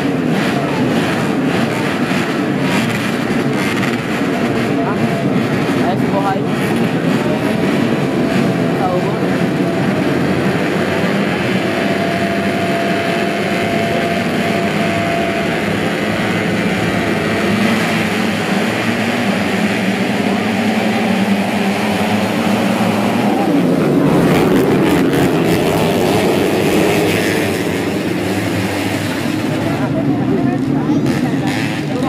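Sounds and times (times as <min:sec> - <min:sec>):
motorcycles revving and accelerating: 0:00.0 - 0:32.0.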